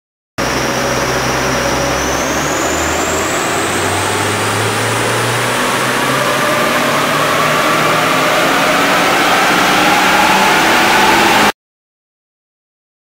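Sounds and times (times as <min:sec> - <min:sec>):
car engine revving under load: 0:00.4 - 0:11.5
high whine: 0:00.4 - 0:11.5.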